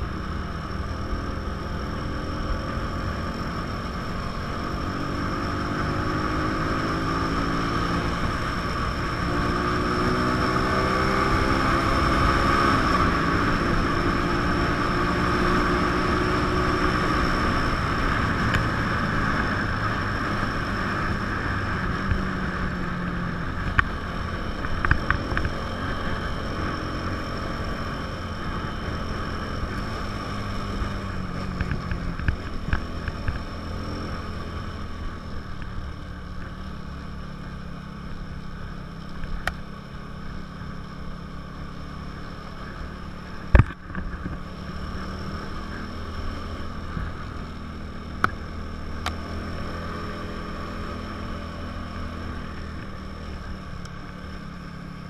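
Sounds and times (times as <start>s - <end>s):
motorcycle engine shifting gears: 0.0s - 55.0s.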